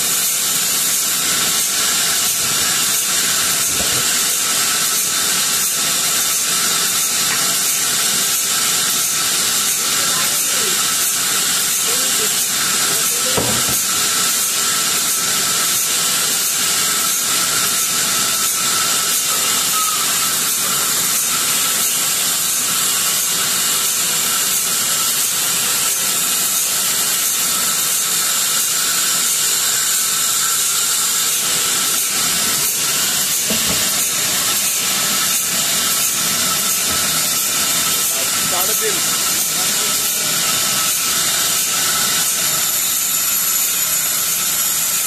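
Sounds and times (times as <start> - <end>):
band saw cutting wood: 0.0 - 45.0.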